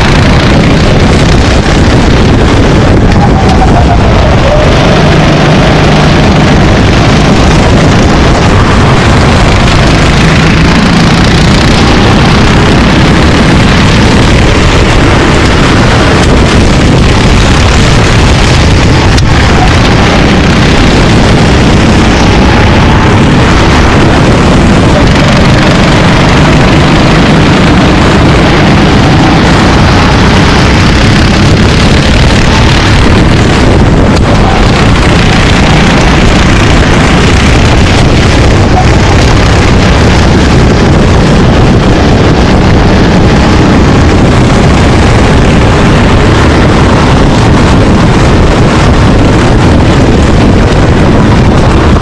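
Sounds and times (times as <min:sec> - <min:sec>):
racing kart engine running: 0:00.0 - 0:52.0
wind buffeting microphone: 0:00.0 - 0:52.0.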